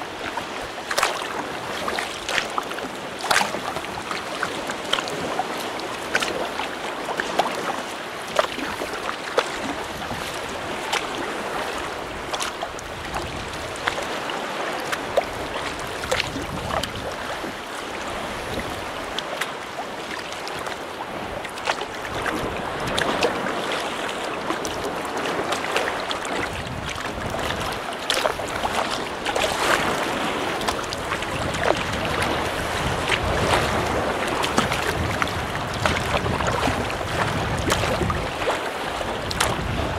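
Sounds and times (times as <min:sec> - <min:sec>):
paddle splashes: 0:00.0 - 0:39.9
sea water splashing and lapping: 0:00.0 - 0:39.9
wind on microphone: 0:00.0 - 0:39.9.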